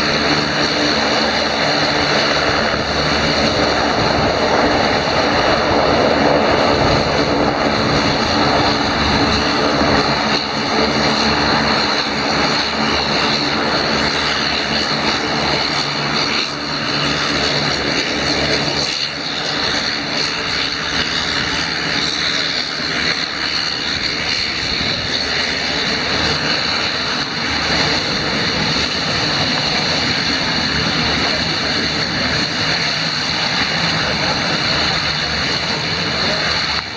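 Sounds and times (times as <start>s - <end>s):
floatplane engine droning: 0.0s - 36.9s.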